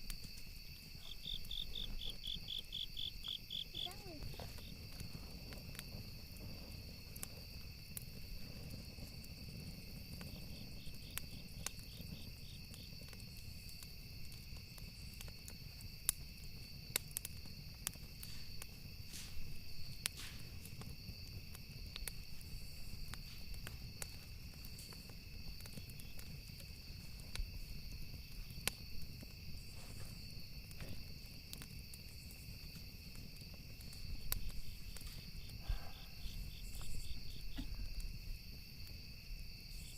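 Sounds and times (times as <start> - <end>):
campfire wood crackling: 0.0 - 39.9.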